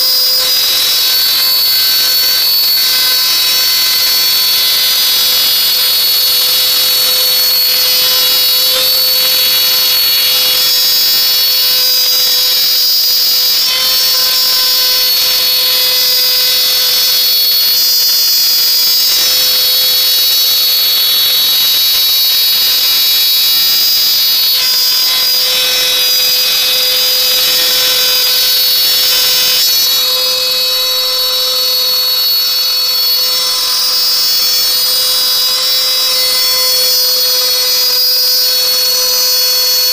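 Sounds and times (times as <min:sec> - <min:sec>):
router high-pitched whine: 0:00.0 - 0:39.9.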